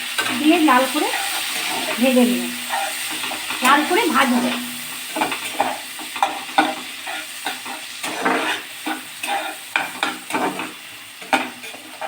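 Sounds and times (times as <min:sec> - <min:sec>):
food sizzling in oil: 0:00.0 - 0:12.0
spatula scraping pan: 0:00.0 - 0:12.0.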